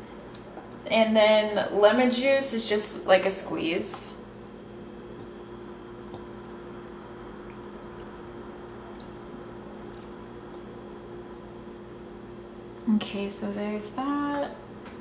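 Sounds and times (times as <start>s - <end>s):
low appliance hum: 0.0s - 15.0s
faint high whine: 0.8s - 14.7s.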